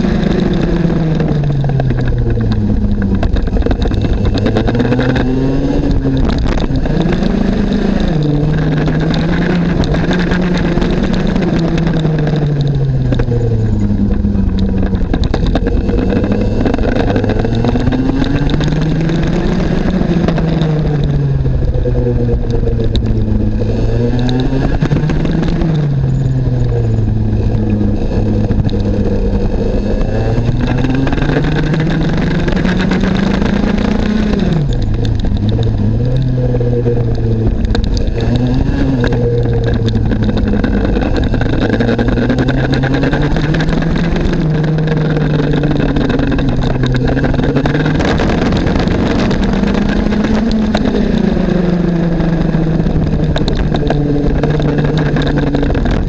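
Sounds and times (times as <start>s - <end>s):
kart engine accelerating: 0.0s - 56.0s.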